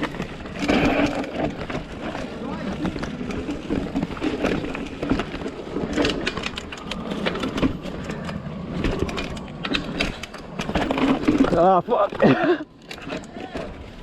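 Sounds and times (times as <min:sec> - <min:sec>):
bike rattling and knocking: 0:00.0 - 0:14.0
bike tyres rumbling on dirt: 0:00.0 - 0:14.0.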